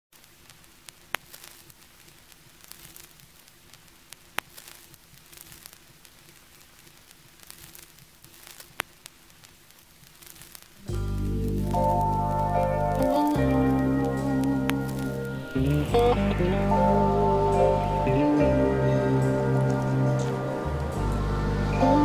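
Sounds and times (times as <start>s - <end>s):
sharp record pops: 0.1s - 22.0s
vinyl record crackle and hiss: 0.1s - 22.0s.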